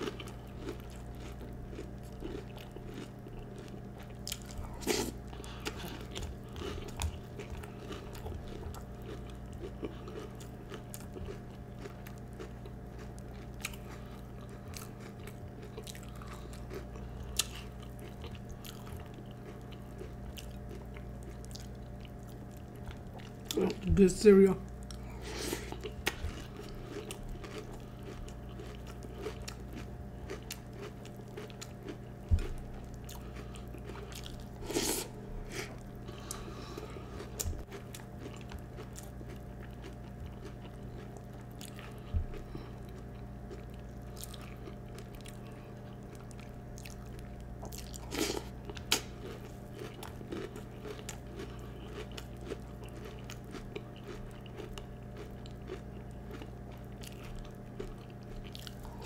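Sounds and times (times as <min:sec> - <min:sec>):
person chewing crunchy cereal: 0:00.0 - 0:59.0
steady low hum: 0:00.0 - 0:59.0.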